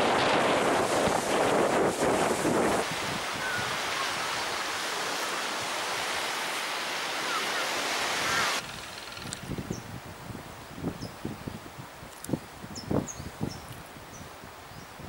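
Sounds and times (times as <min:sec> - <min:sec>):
wind buffeting microphone: 0:00.0 - 0:06.5, 0:08.1 - 0:15.0
wind and surf hiss: 0:00.0 - 0:15.0.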